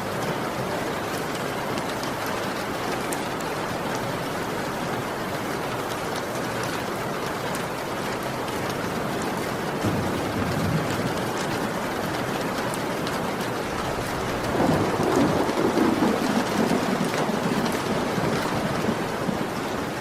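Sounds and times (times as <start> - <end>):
heavy rain: 0.0 - 20.0
raindrops pattering: 0.0 - 20.0.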